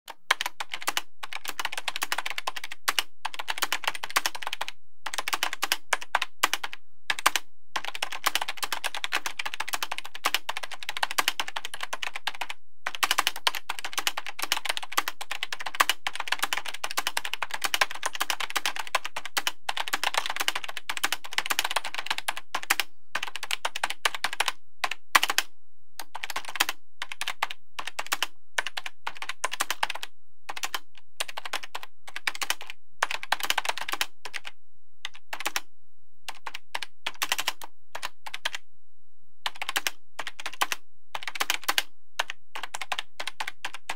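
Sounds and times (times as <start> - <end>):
typing on computer keyboard: 0.1 - 35.6, 36.3 - 38.6, 39.5 - 43.9.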